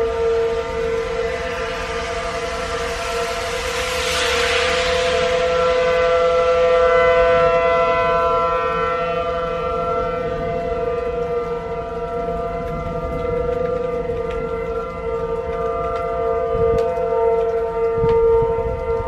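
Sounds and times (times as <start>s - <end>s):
rush of noise: 0.0s - 19.0s
warning siren steady tone: 0.0s - 19.0s.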